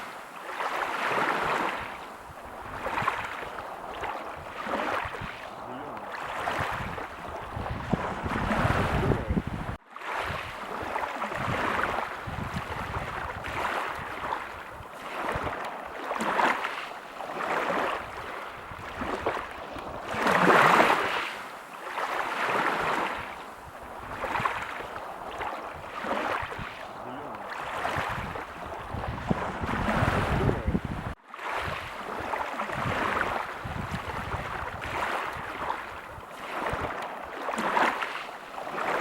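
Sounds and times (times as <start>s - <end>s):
waves breaking on a beach: 0.0s - 39.0s.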